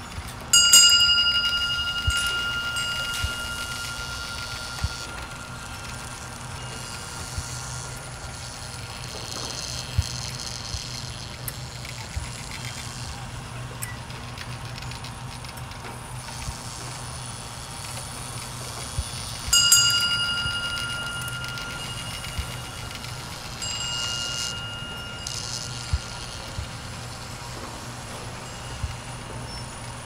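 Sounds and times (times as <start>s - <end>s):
metallic ring: 0.0s - 15.2s, 16.0s - 30.0s
low motor hum: 0.0s - 30.0s.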